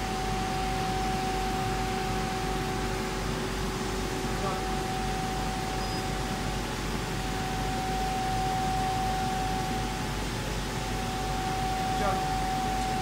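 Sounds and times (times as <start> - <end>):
constant high tone: 0.0 - 13.0
laser cutter fans hissing: 0.0 - 13.0.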